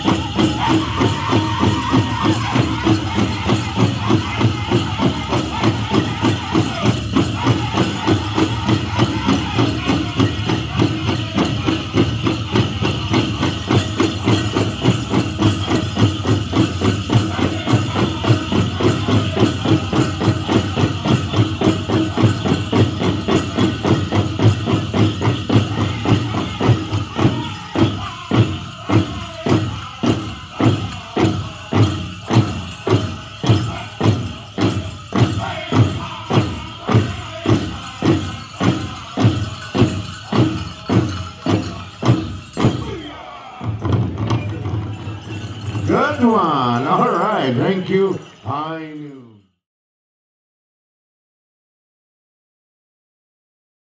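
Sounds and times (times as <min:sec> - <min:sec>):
group singing: 0:00.0 - 0:48.1
bells jingling: 0:00.0 - 0:49.6.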